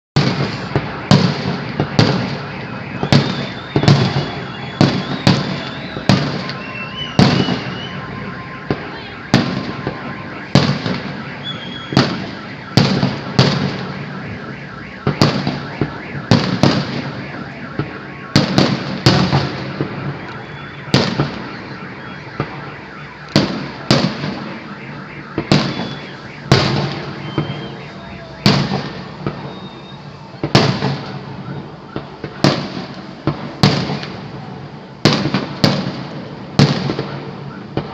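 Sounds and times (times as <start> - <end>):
fireworks bursting with echo: 0.2 - 37.9.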